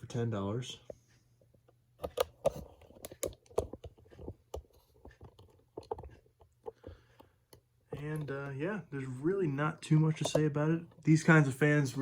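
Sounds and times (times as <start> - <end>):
light clicks and knocks: 0.8 - 11.4.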